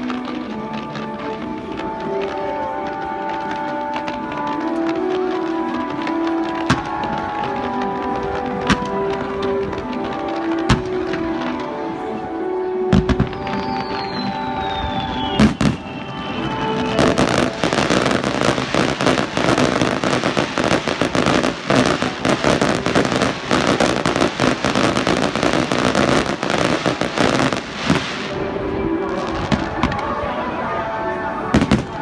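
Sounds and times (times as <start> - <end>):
fireworks bursting and crackling: 0.0 - 32.0
music: 0.0 - 32.0.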